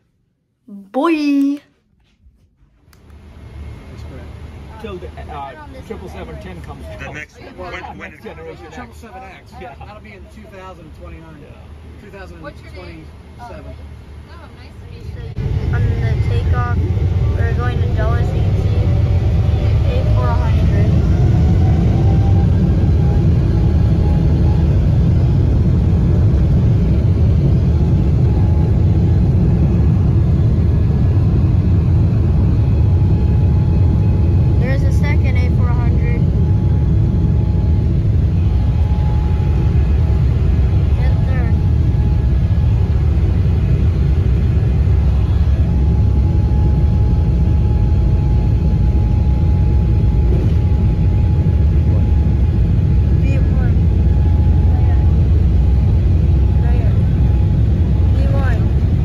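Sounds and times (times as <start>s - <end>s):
jet engines and wheels rumbling: 2.6s - 59.0s.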